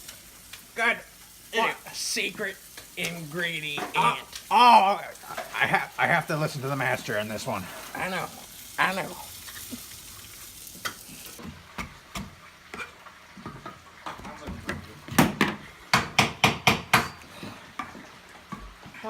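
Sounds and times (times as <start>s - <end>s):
faint sizzling hiss: 0.0s - 15.9s.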